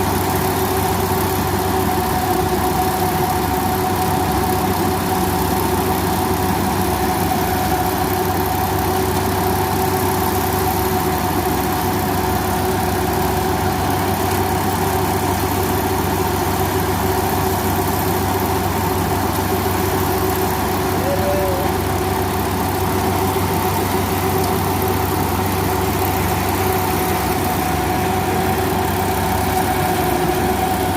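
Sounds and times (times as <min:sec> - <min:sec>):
combine harvester engine droning: 0:00.0 - 0:30.9.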